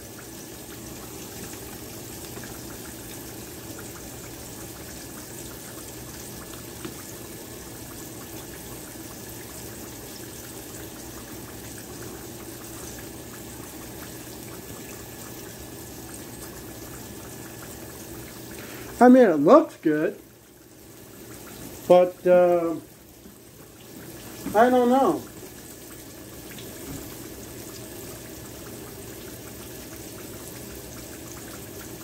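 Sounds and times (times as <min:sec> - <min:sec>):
food deep-frying in oil: 0:00.0 - 0:32.0.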